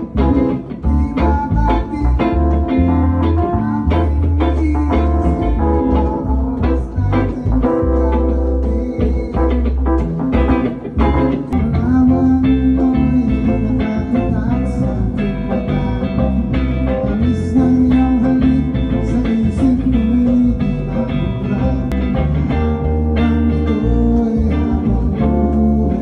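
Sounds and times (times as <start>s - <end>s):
bass guitar: 0.0s - 26.0s
drums: 0.0s - 26.0s
guitar melody: 0.0s - 26.0s.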